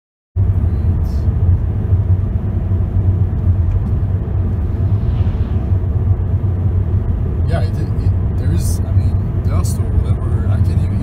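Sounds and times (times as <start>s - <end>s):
car driving at highway speed: 0.4s - 11.0s.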